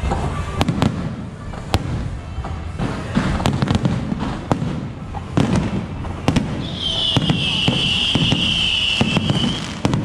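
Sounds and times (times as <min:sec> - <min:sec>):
continuous rumble: 0:00.0 - 0:10.0
fireworks bangs and crackles: 0:00.0 - 0:10.0.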